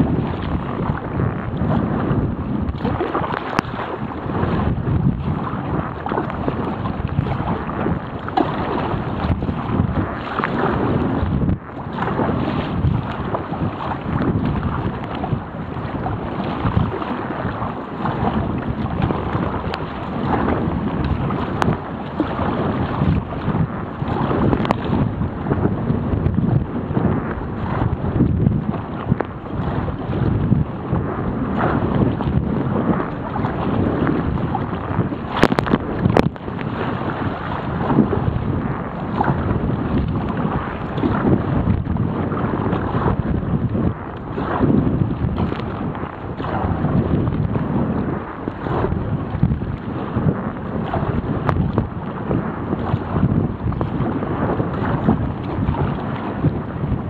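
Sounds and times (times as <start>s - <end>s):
rough water splashing: 0.0s - 57.0s
wind buffeting microphone: 0.0s - 57.0s.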